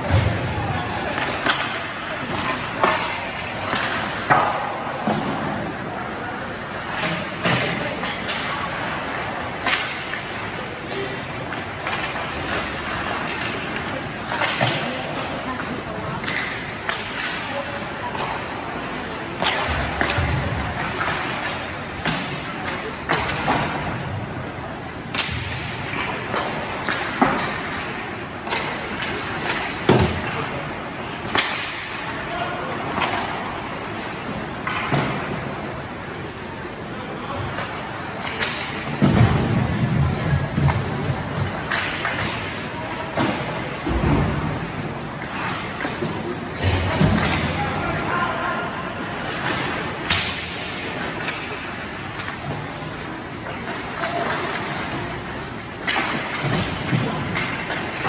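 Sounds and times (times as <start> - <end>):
hockey stick and puck hitting boards: 0.0 - 5.8, 6.6 - 58.0
hubbub: 0.0 - 58.0
voices chattering in echoing arena: 0.0 - 58.0.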